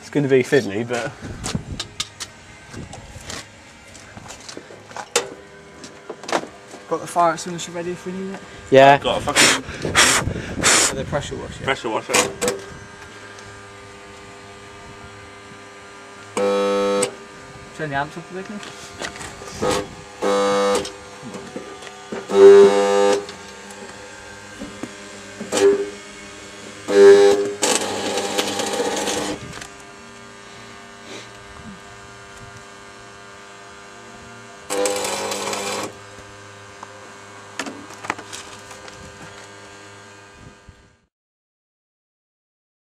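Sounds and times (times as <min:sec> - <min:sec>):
steady background hum: 0:00.0 - 0:40.9
electric welder arcing: 0:00.7 - 0:03.5, 0:04.3 - 0:41.1.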